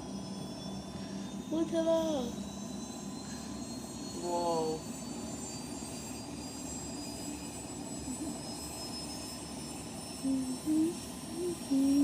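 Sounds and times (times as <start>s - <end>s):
distant aircraft engine running: 0.0s - 12.0s
high whine rising in pitch: 0.0s - 12.0s.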